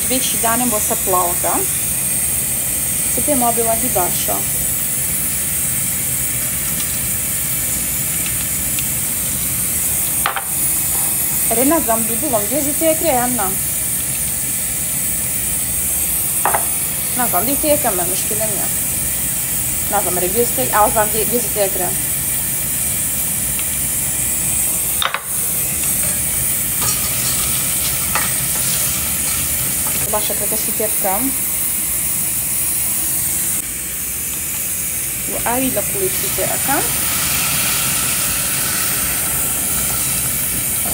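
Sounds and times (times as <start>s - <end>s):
food sizzling in a pan: 0.0s - 40.9s
steady hiss: 0.0s - 40.9s.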